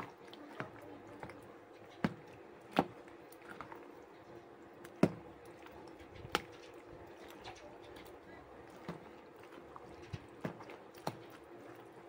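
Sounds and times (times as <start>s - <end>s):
spoon stirring macaroni salad: 0.0s - 12.0s.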